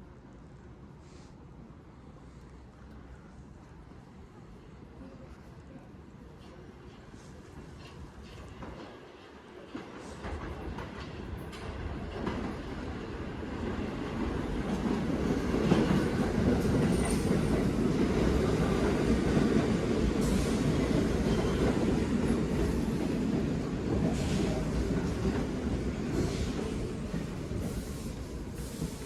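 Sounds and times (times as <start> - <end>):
subway train picking up speed: 0.0 - 29.0.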